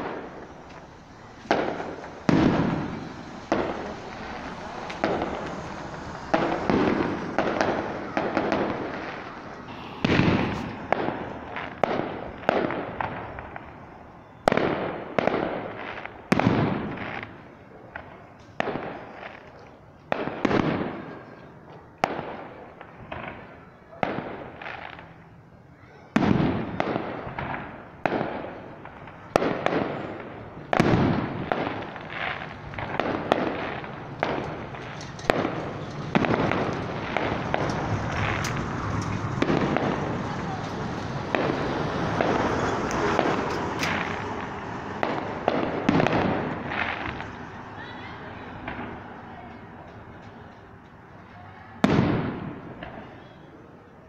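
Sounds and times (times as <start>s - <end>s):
firework bursts with echo: 0.0s - 25.3s, 26.1s - 53.6s.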